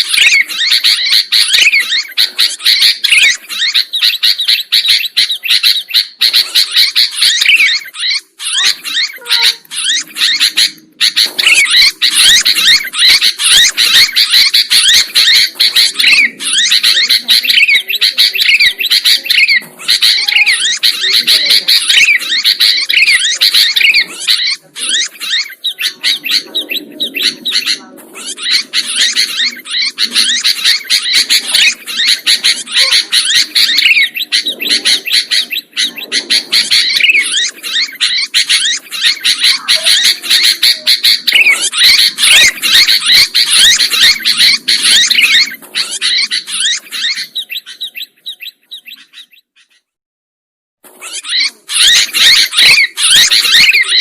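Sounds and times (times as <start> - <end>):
bird chirping and squawking: 0.0 - 50.0, 50.8 - 54.0.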